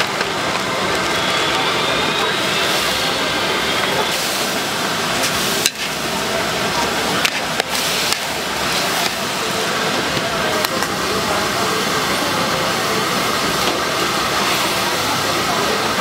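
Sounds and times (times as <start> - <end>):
noodles sizzling in a pan: 0.3 - 16.0.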